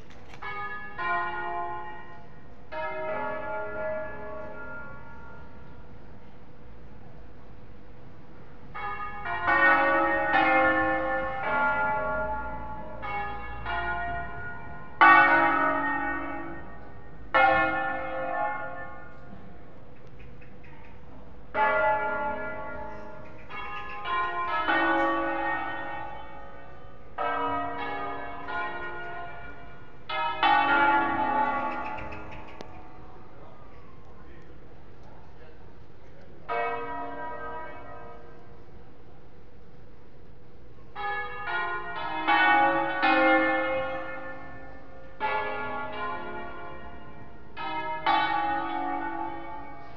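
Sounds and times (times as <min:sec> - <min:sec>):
church bells ringing: 0:00.0 - 0:07.0, 0:08.4 - 0:20.0, 0:21.3 - 0:34.4, 0:36.4 - 0:39.1, 0:40.9 - 0:49.9.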